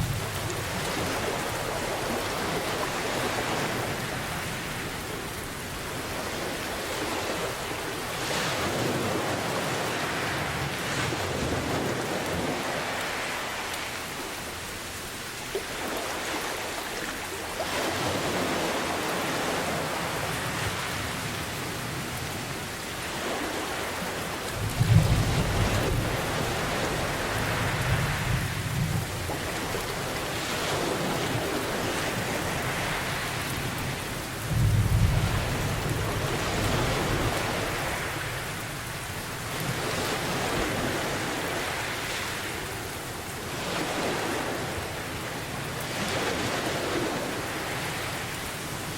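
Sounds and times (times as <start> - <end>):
steady rain: 0.0 - 48.9
surf washing in: 0.0 - 48.9.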